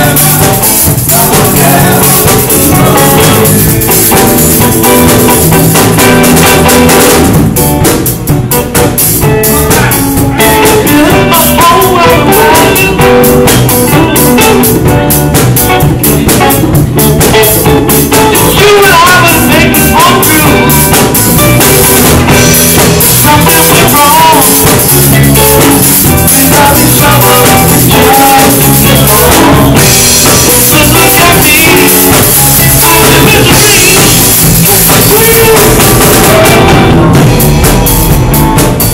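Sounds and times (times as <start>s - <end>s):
drum kit beat: 0.0s - 38.9s
guitar: 0.0s - 38.9s
live band playing: 0.0s - 38.9s.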